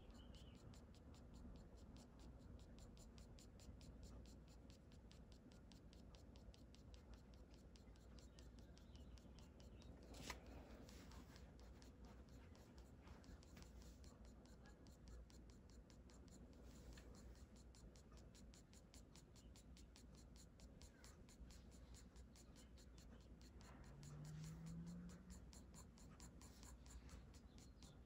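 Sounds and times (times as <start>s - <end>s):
pencil scratching on paper: 0.0s - 28.0s.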